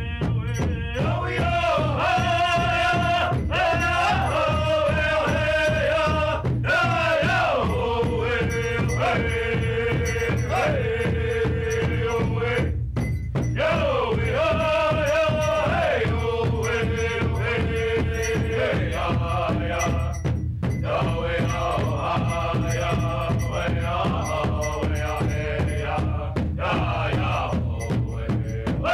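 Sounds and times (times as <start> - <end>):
singers chanting: 0.0 - 12.8, 13.6 - 28.9
large drum steady beat: 0.0 - 28.9.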